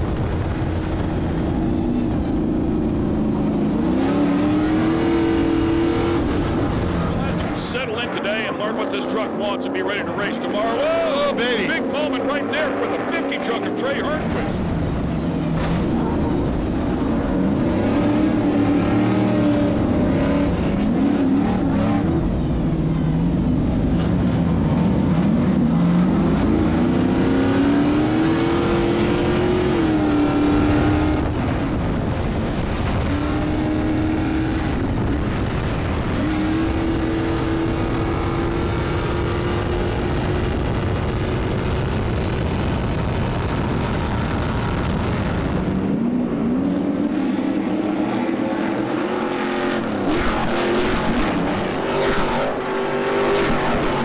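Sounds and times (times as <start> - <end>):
road and wind noise: 0.0 - 54.0
truck engine accelerating: 0.0 - 54.0.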